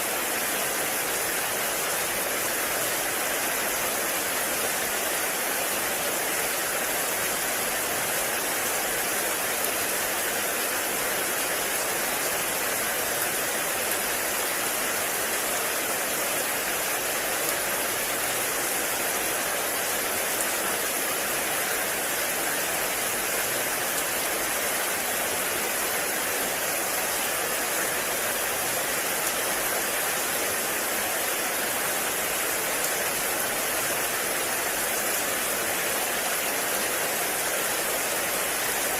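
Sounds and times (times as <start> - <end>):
heavy rain on leaves: 0.0 - 38.9.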